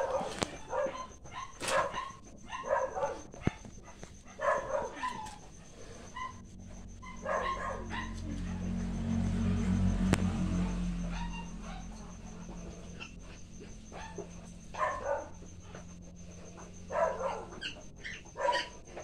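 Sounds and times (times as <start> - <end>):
dog barking and yelping: 0.0 - 19.0.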